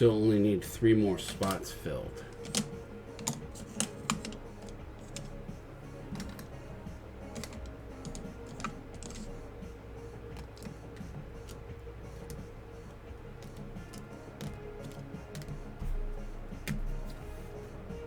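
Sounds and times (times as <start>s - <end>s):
quiet background music: 0.0s - 18.0s
typing on keyboard: 1.2s - 18.0s.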